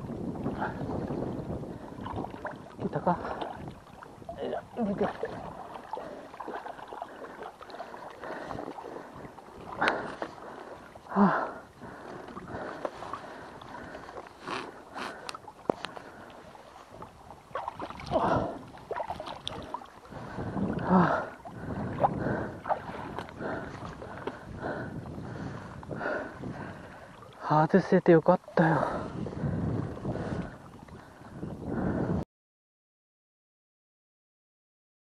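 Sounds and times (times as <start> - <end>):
water lapping against concrete: 0.0 - 32.0.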